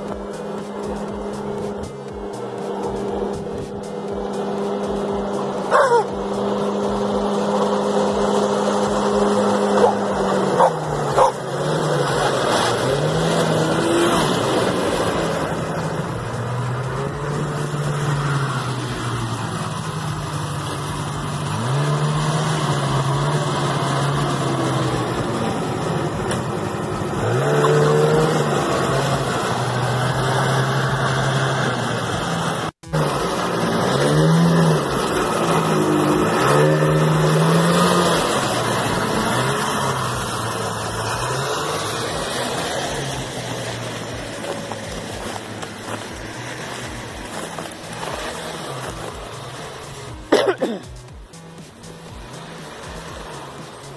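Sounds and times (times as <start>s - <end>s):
snowmobile engine revving: 0.0s - 53.9s.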